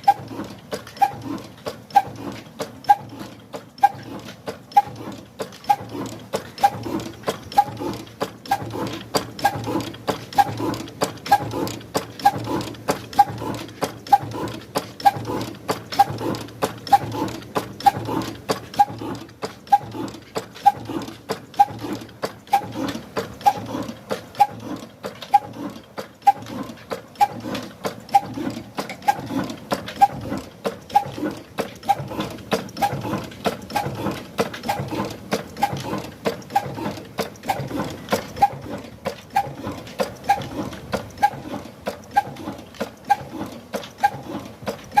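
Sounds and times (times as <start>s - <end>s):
engine chugging with knocks: 0.0s - 45.0s.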